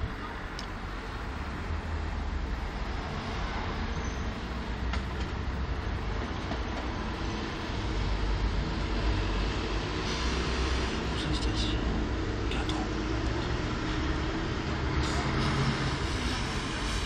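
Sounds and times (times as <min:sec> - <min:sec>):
tram rumbling along track: 0:00.0 - 0:17.0.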